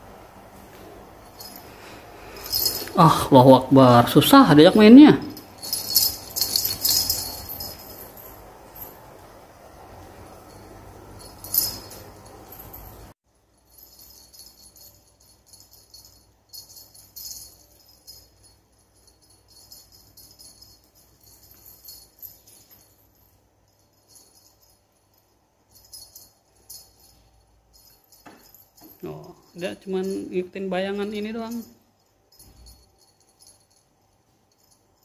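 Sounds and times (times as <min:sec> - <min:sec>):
small jingle bell tinkling: 0:00.7 - 0:35.0.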